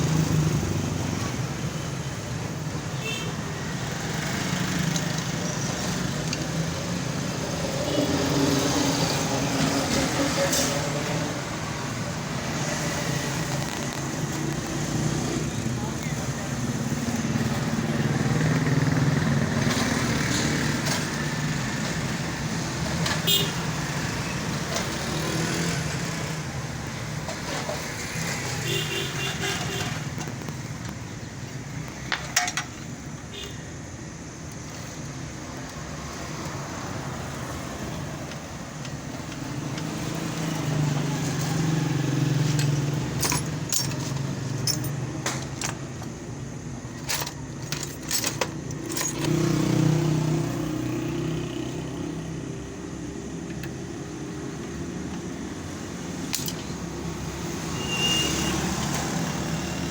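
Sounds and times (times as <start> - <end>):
motor vehicles passing: 0.0 - 33.0, 34.7 - 46.7, 47.4 - 59.9.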